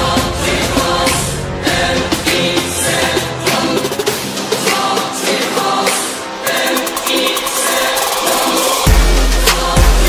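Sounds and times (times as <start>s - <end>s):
music with choir-like singing: 0.0s - 10.0s.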